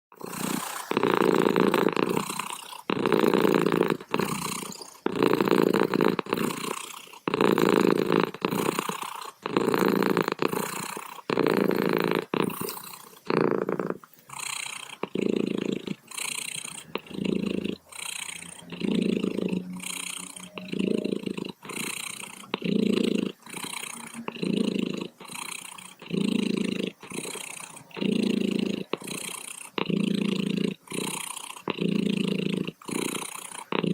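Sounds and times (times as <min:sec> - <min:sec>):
cat purring: 0:00.1 - 0:33.9.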